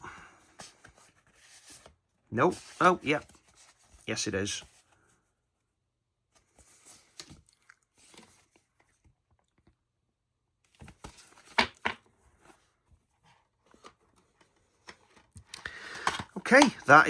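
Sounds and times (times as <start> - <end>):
cards and packaging rustling: 0.4 - 5.3, 6.3 - 9.8, 10.6 - 17.0.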